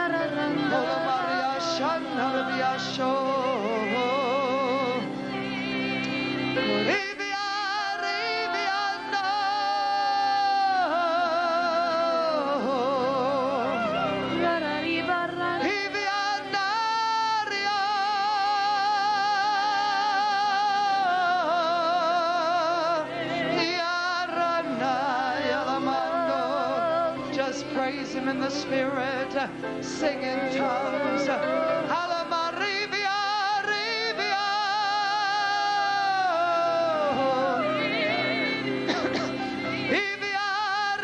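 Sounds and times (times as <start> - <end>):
congregation singing long notes: 0.0 - 41.0.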